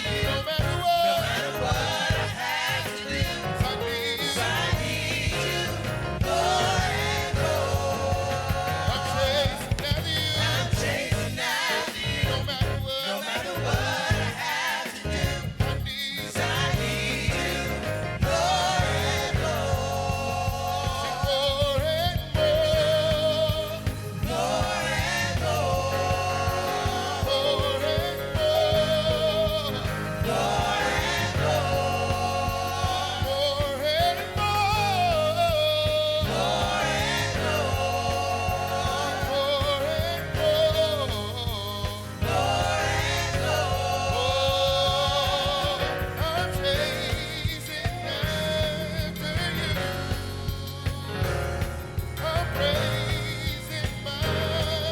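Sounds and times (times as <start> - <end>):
gospel singing with bass and drums: 0.0 - 54.9.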